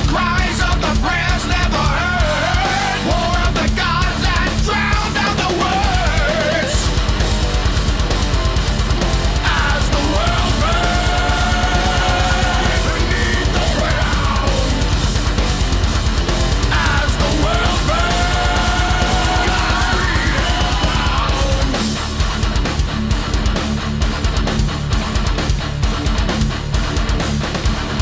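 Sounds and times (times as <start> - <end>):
heavy metal music: 0.0 - 28.0.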